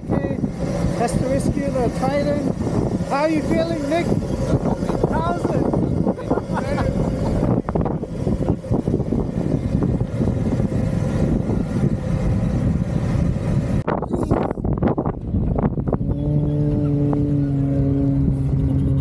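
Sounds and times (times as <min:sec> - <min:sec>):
off-road vehicle engine: 0:00.0 - 0:19.0
wind buffeting microphone: 0:00.0 - 0:19.0.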